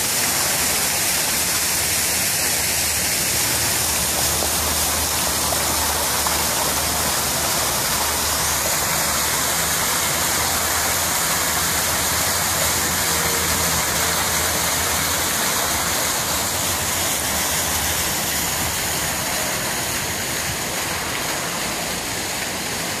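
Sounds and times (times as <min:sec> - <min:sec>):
water splashing over stones: 0:00.0 - 0:23.0.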